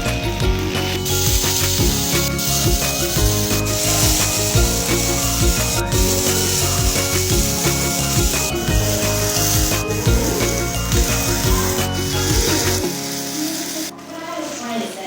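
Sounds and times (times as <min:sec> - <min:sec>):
background music with steady beat: 0:00.0 - 0:14.9
steady high hiss: 0:00.0 - 0:15.0.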